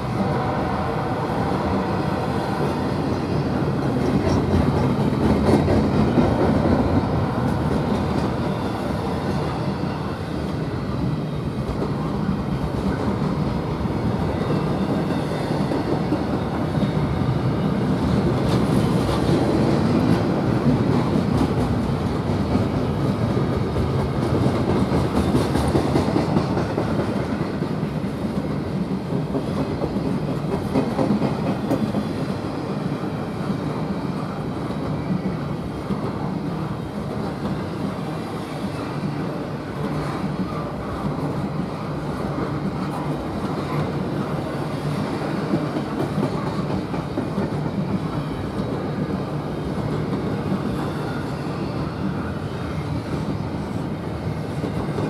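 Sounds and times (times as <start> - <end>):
freight train wheels clicking and rumbling: 0.0 - 55.0.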